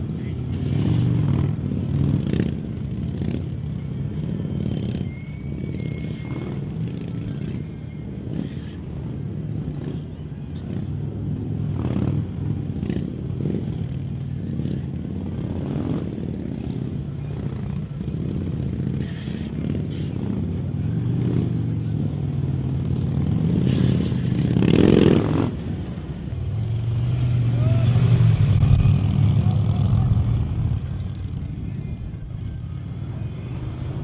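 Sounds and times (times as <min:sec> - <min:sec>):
motorcycle engines at low revs: 0:00.0 - 0:34.0.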